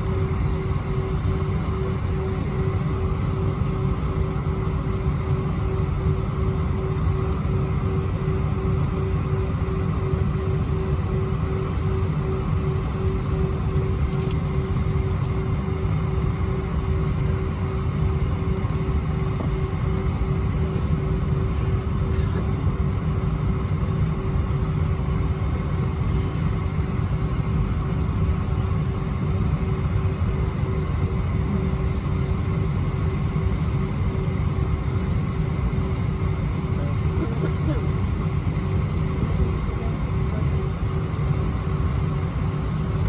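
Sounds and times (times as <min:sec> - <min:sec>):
airplane cabin low rumble: 0:00.0 - 0:43.0
steady whine: 0:00.0 - 0:43.0.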